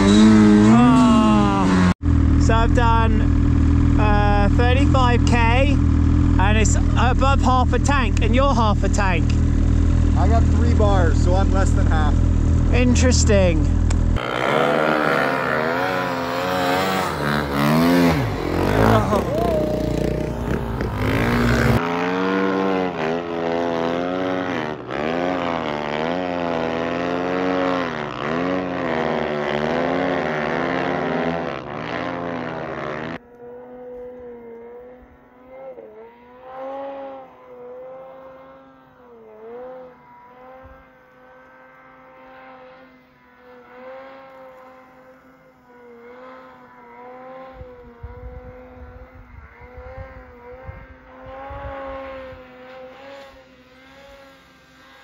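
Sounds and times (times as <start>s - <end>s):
distant snowmobile engine: 0.0s - 55.0s
snow bike engine revving: 0.0s - 55.0s.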